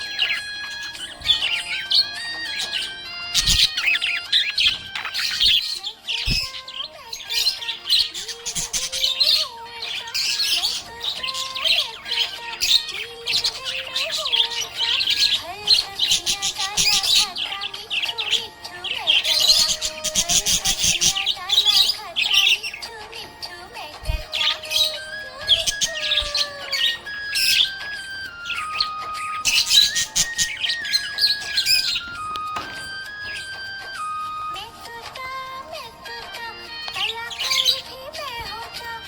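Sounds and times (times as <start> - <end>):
budgerigars chattering and warbling: 0.0 - 39.0.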